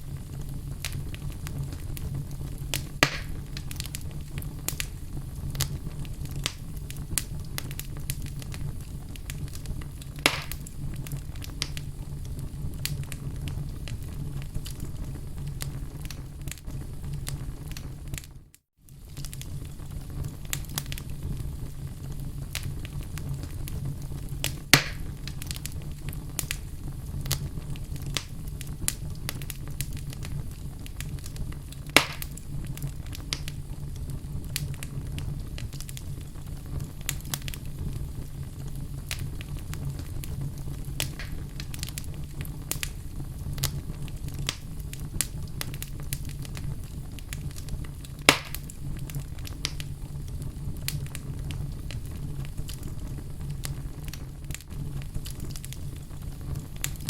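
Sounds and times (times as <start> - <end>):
fire pops: 0.0 - 57.0
wood fire crackling: 0.0 - 57.0.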